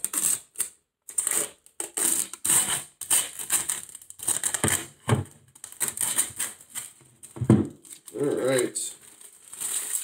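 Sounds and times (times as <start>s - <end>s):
plastic film crinkling: 0.0s - 10.0s.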